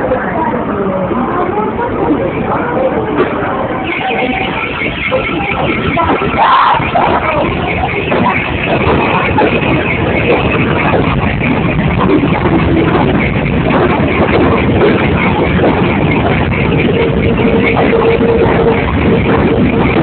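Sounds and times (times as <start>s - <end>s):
steady tone: 0.0s - 20.0s
subway train pulling out: 0.0s - 20.0s.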